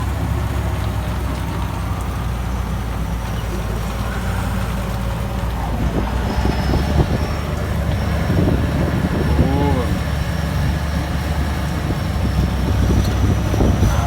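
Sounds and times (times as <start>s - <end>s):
heavy rain falling: 0.0s - 14.0s
tractor engine running: 0.0s - 14.0s.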